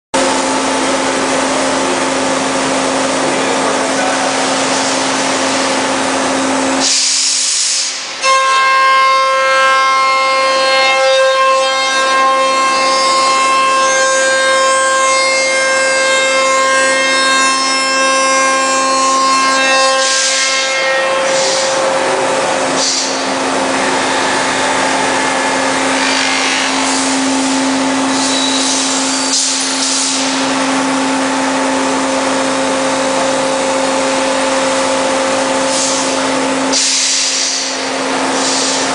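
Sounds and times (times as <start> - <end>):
cnc machine cutting wood: 0.2 - 7.6, 8.2 - 38.9
high multi-tone machine whine: 0.2 - 38.9.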